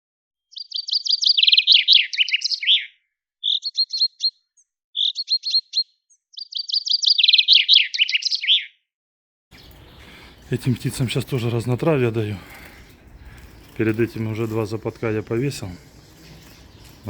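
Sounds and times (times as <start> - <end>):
bird chirping: 0.5 - 8.8, 9.5 - 17.0
songbird singing: 0.5 - 8.8, 9.5 - 17.0.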